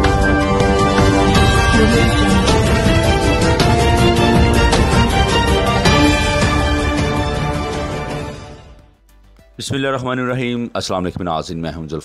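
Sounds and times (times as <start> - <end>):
news theme music: 0.0 - 11.0.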